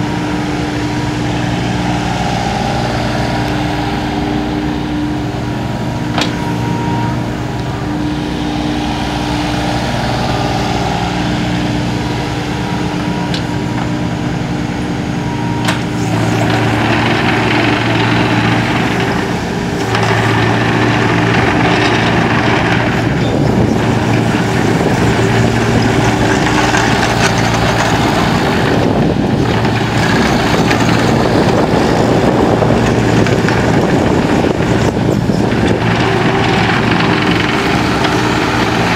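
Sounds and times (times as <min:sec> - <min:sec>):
excavator diesel engine running: 0:00.0 - 0:38.9
hydraulic and track noise: 0:00.0 - 0:38.9.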